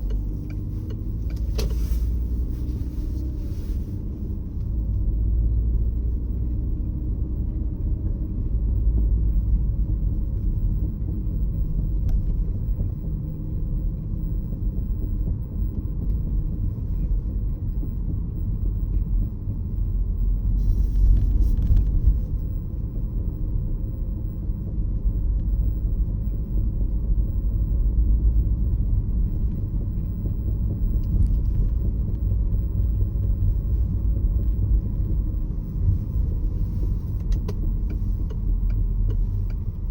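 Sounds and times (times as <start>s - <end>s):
road and drivetrain rumble: 0.0s - 39.9s.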